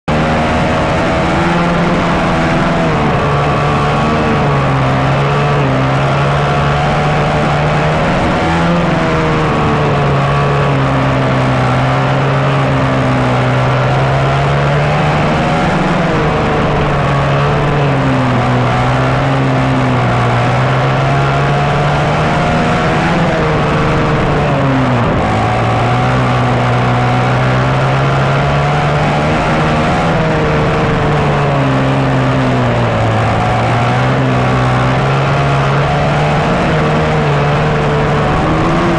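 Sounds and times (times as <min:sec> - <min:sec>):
engine revs hunting: 0:00.0 - 0:38.9.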